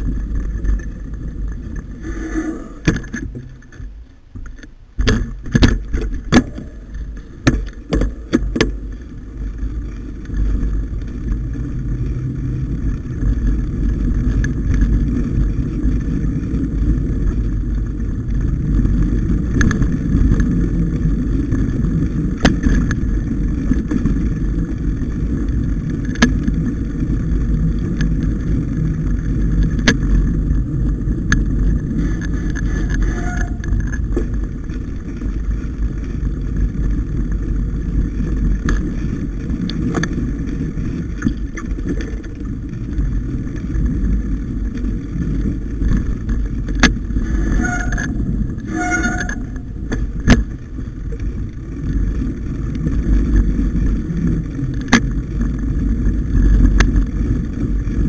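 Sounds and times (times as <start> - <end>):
wind on microphone: 0.0 - 4.1, 5.0 - 58.0
bike knocking and rattling: 0.0 - 58.0
bike tyres rumbling: 0.0 - 58.0.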